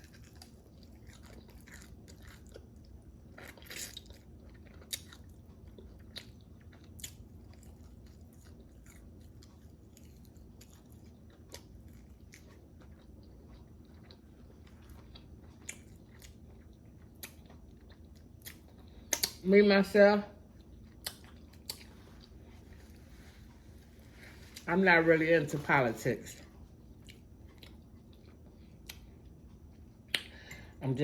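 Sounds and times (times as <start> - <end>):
person chewing crispy chicken: 0.0 - 19.4, 20.5 - 24.7, 26.6 - 30.5.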